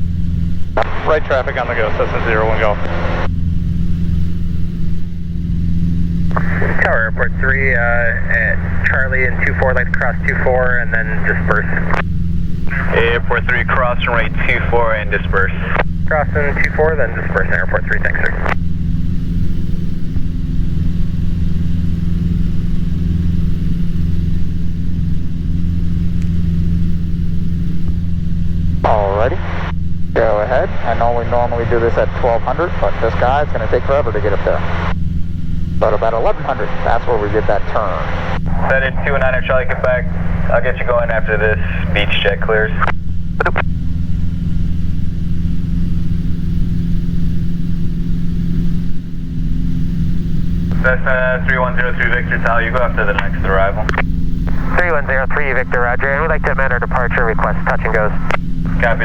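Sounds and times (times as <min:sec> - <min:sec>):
small plane engine drone: 0:00.0 - 0:59.0.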